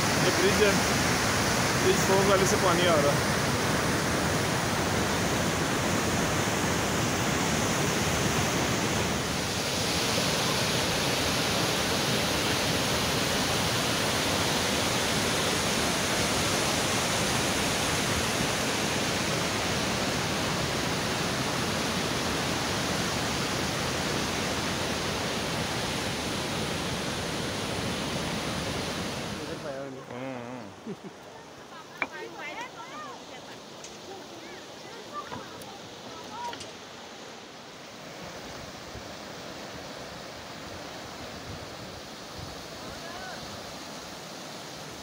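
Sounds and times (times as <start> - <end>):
river rushing over boulders: 0.0 - 45.0.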